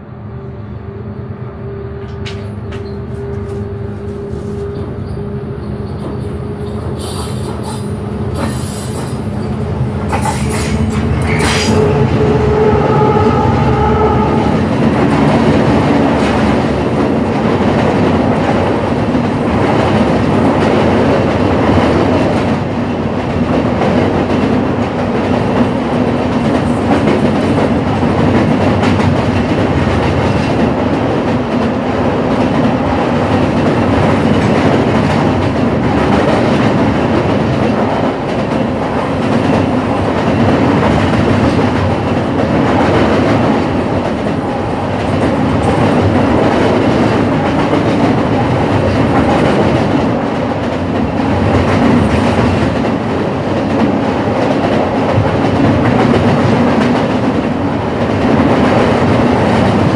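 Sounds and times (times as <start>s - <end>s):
train wheels rumbling and clattering: 1.7s - 59.9s.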